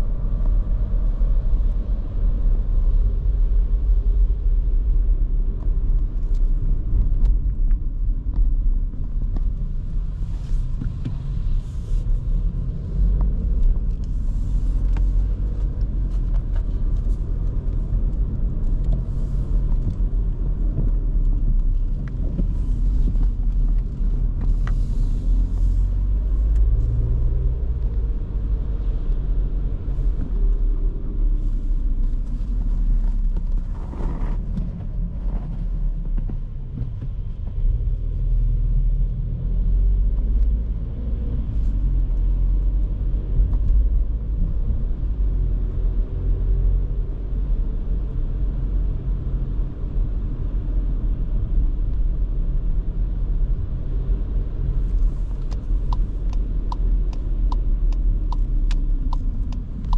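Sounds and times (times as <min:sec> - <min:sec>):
car engine rumbling: 0:00.0 - 0:59.9
tyres on the road: 0:00.0 - 0:59.9.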